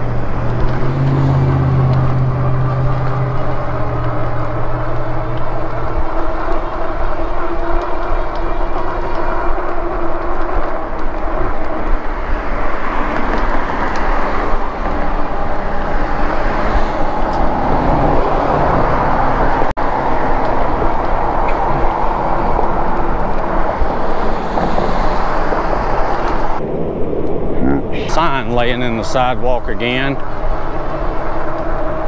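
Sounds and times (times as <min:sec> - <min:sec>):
bicycle tyre and road noise: 0:00.0 - 0:27.4, 0:28.1 - 0:32.0
wind on microphone: 0:00.0 - 0:32.0.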